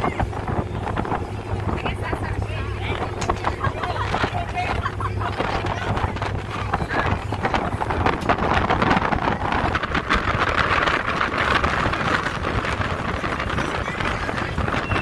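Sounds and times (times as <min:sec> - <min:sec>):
ferry engines droning: 0:00.0 - 0:15.0
water rushing: 0:00.0 - 0:15.0
wind buffeting microphone: 0:00.0 - 0:15.0.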